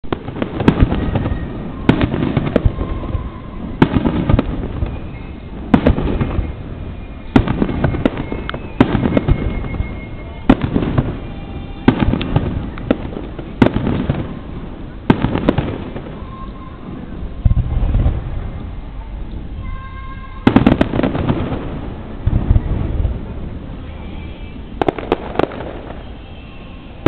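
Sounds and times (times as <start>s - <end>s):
fireworks bursting with rumble: 0.0s - 27.0s.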